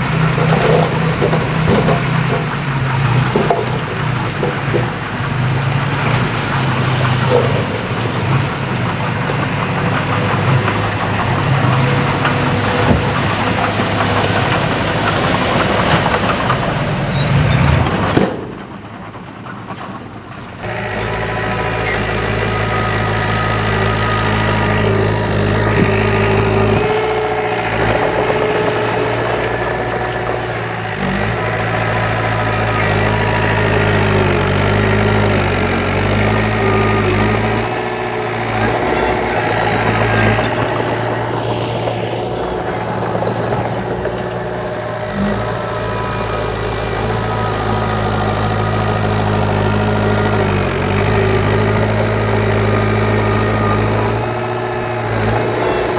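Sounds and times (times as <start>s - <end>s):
engine idling: 0.0s - 55.9s
heavy diesel machinery running hard: 0.0s - 55.9s.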